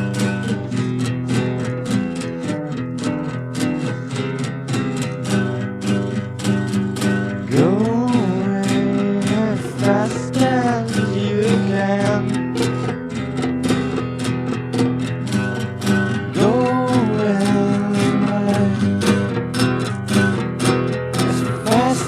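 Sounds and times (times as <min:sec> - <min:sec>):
strummed acoustic guitar chords: 0:00.0 - 0:22.0.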